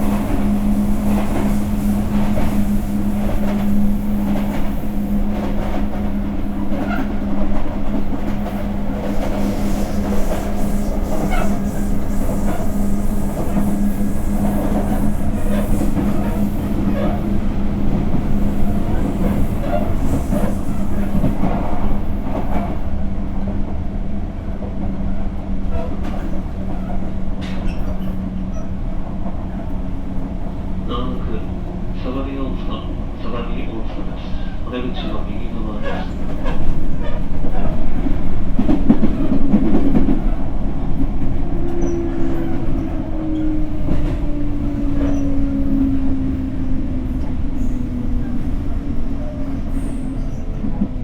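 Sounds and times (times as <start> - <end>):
train hum and rumble: 0.0 - 51.0.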